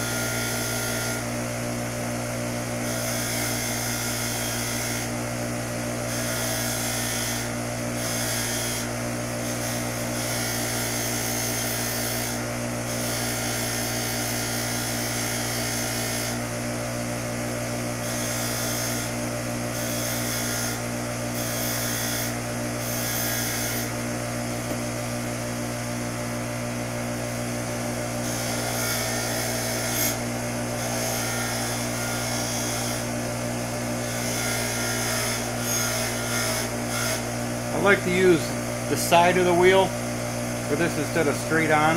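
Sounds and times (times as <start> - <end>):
bench grinder motor hum: 0.0 - 41.9.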